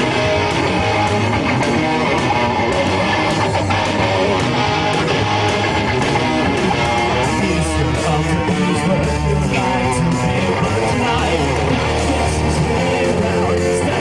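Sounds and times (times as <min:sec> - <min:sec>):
bass guitar: 0:00.0 - 0:14.0
strummed electric guitar: 0:00.0 - 0:14.0.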